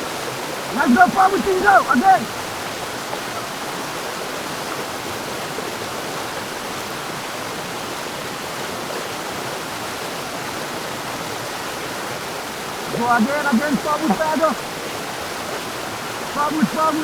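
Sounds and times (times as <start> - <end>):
white water rushing: 0.0 - 17.0.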